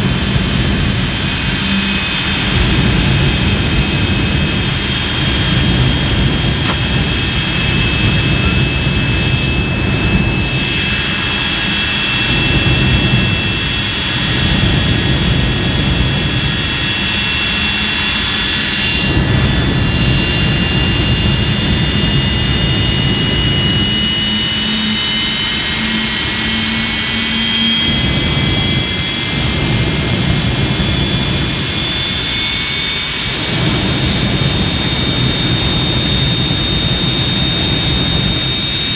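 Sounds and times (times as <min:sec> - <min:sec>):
jet engine rumble and whine: 0:00.0 - 0:38.9.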